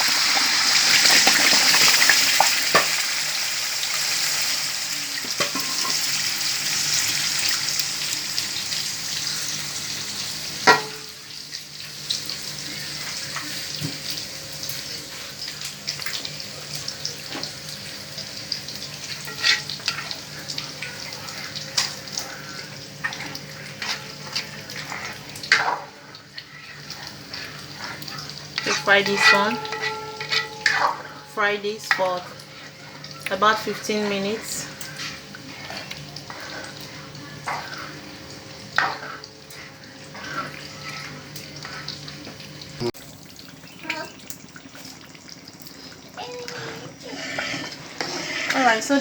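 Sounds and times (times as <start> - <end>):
stew base frying in oil: 0.0 - 49.0.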